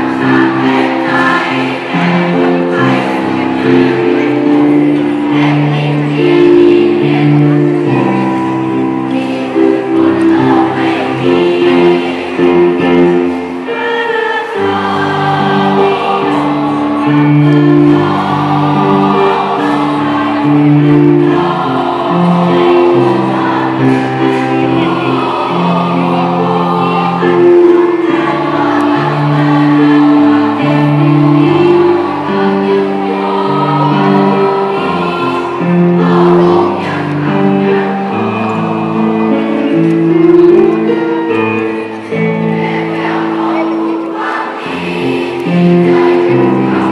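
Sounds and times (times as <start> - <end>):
mixed choir singing in harmony: 0.0 - 46.9.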